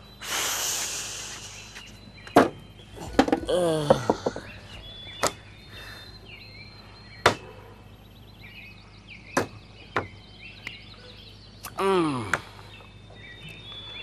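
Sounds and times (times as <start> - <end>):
faint high chirping: 0.0 - 14.0.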